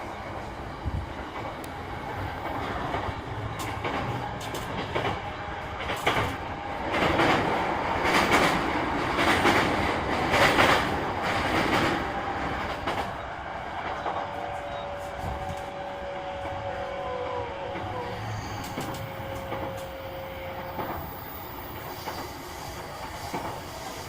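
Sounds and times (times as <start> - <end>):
train running noise on board: 0.0 - 24.0.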